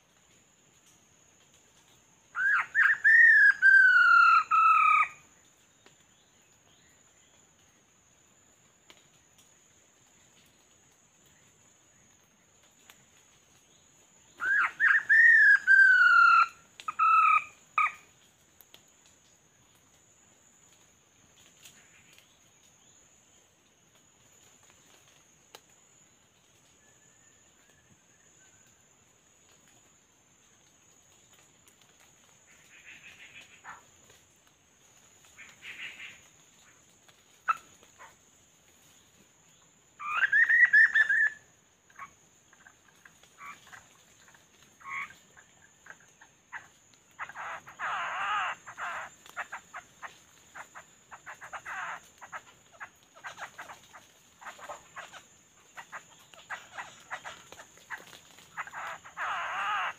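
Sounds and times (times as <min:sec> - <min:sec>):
faint high insect drone: 0:00.0 - 0:59.9.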